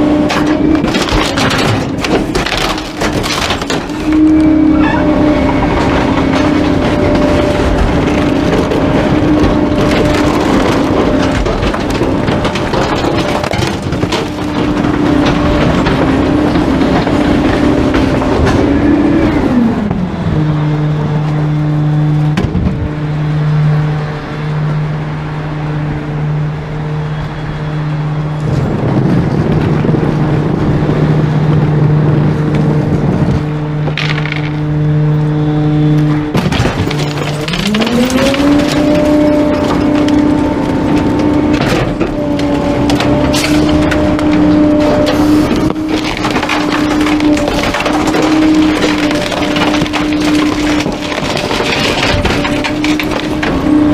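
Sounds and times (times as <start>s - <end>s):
crackling noise: 0.0s - 23.0s, 23.6s - 53.9s
truck engine running: 0.0s - 53.9s.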